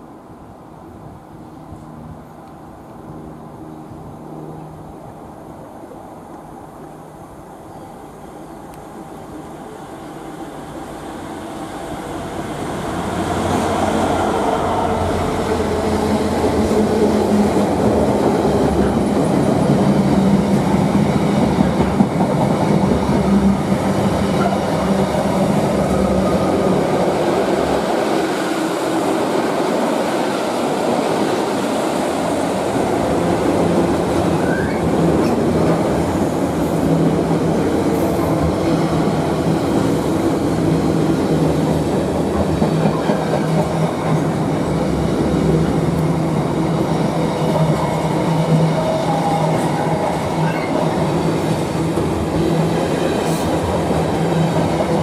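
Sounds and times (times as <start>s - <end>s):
diesel locomotive engine drone: 0.0s - 55.0s
train wheels rumbling on rails: 9.8s - 55.0s.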